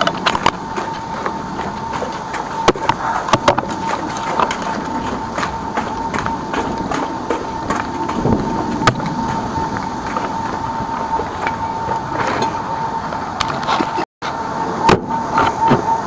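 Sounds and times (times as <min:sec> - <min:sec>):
footsteps: 0:00.0 - 0:14.1
drain jetter whine: 0:00.0 - 0:16.0.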